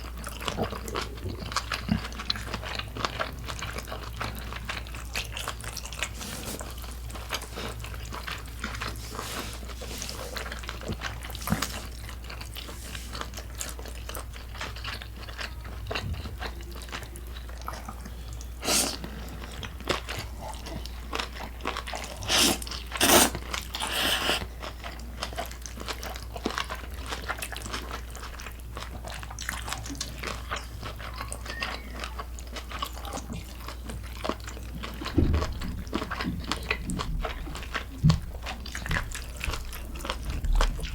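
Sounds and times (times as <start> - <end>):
wet chewing: 0.0 - 40.9.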